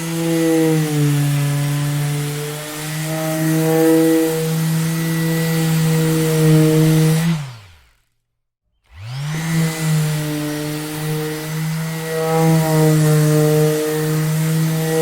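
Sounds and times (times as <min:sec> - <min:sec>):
orbital sander motor: 0:00.0 - 0:08.2, 0:08.8 - 0:15.0.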